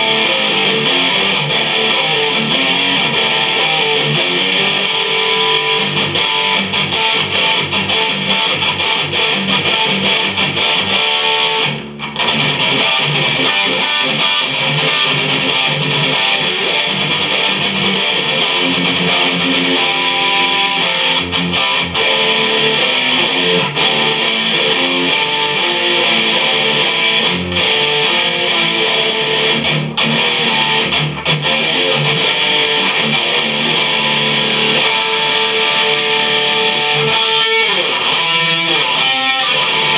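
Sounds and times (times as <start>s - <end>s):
electric guitar picked notes: 0.0s - 39.9s.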